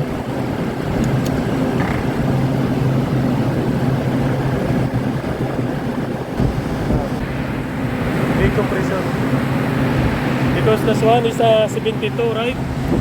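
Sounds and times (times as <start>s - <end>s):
fan and airflow noise: 0.0s - 13.0s.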